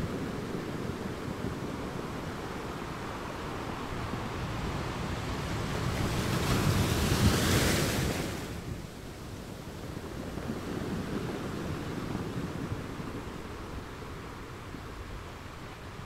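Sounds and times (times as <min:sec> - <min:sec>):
surf washing on shore: 0:00.0 - 0:16.0
wind rumble on microphone: 0:00.0 - 0:16.0.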